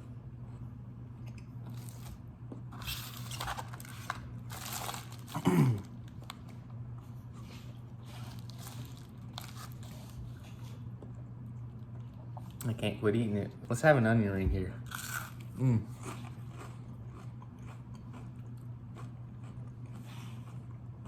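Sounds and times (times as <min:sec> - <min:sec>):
chewing and crunching food: 0:00.0 - 0:12.7, 0:14.9 - 0:21.0
steady low hum: 0:00.0 - 0:21.0.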